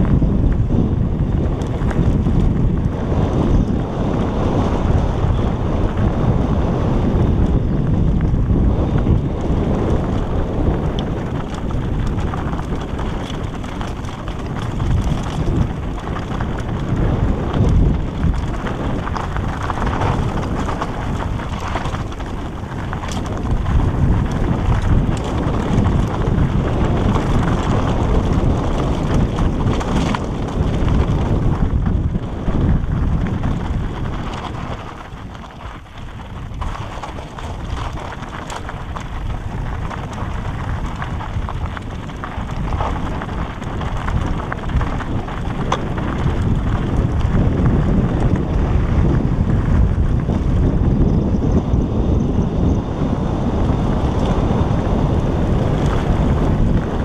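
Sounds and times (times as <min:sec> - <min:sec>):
tyres crunching on dirt: 0:00.0 - 0:51.2, 0:53.0 - 0:57.0
bike rattling over stones: 0:00.0 - 0:57.0
wind buffeting microphone: 0:00.0 - 0:57.0.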